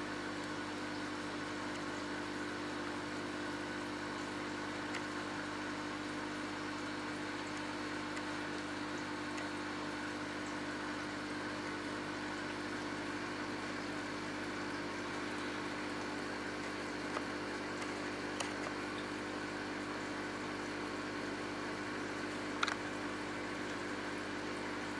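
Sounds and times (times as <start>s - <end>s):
air pump humming: 0.0s - 24.9s.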